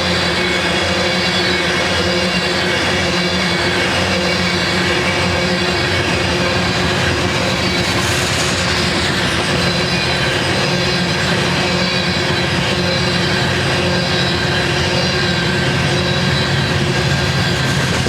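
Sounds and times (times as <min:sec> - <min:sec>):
freight train cars on rails: 0:00.0 - 0:18.0.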